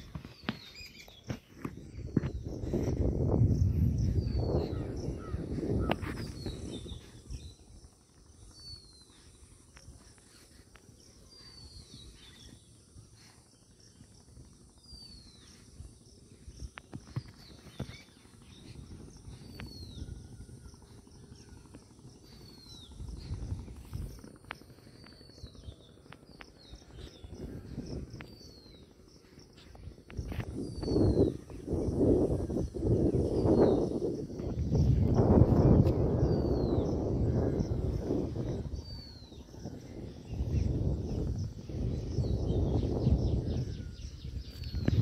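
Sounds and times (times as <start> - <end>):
low rumbling noise: 1.7 - 45.0.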